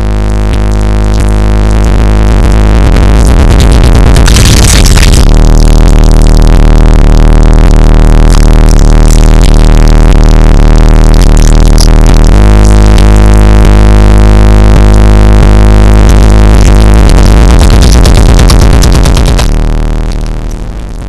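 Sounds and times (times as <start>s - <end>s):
loud bass-heavy electronic music: 0.0s - 21.0s.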